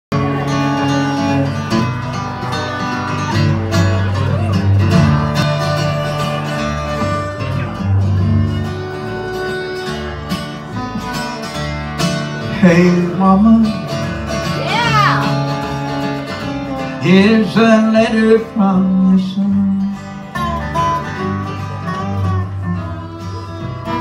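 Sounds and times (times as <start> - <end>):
acoustic guitar: 0.1 - 24.0
fiddle: 0.1 - 24.0
resonator guitar: 0.1 - 24.0
upright bass walking line: 0.1 - 24.0.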